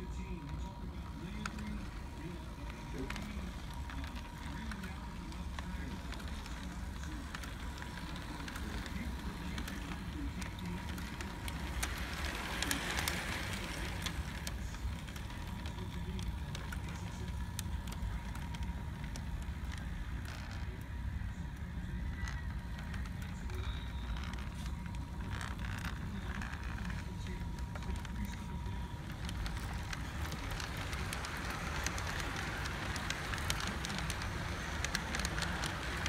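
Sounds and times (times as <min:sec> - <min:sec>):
wheels clicking over rails: 0:00.0 - 0:36.0
model train motor rumble: 0:01.0 - 0:18.6, 0:23.4 - 0:36.0.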